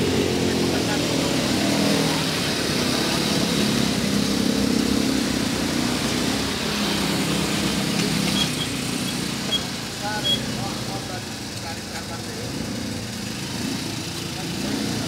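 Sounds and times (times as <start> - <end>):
quad bike engines passing: 0.0 - 15.0.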